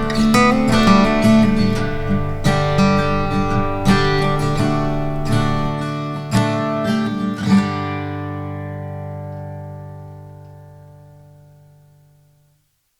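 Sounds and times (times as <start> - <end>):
acoustic guitar strumming: 0.0 - 12.5.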